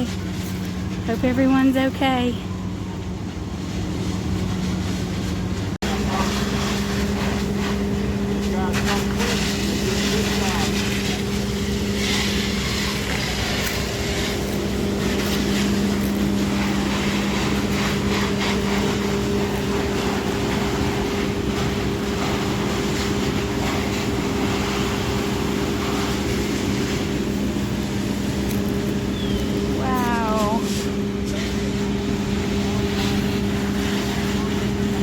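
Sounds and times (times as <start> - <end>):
motor humming: 5.4 - 35.0.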